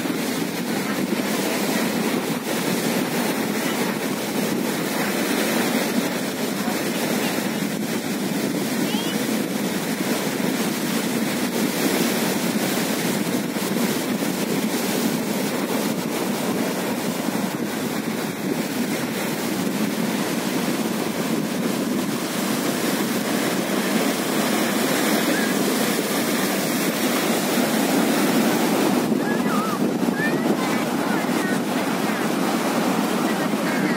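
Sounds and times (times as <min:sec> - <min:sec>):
waves washing over rock shore: 0:00.0 - 0:33.9.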